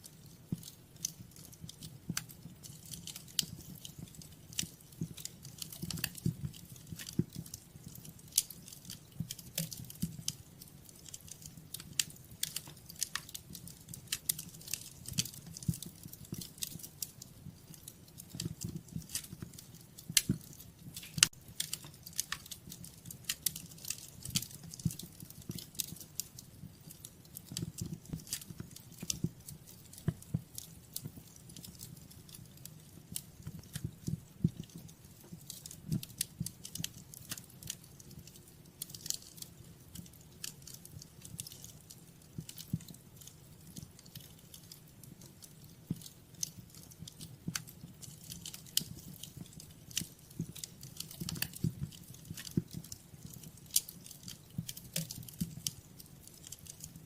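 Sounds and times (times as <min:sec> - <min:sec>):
burning logs popping: 0:00.0 - 0:57.0
low rumble of flames: 0:00.0 - 0:57.0.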